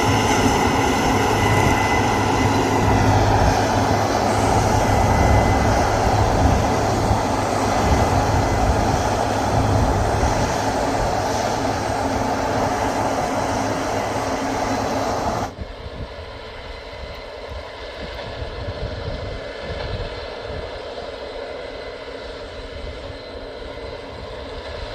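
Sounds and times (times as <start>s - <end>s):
combine harvester running: 0.0s - 24.9s.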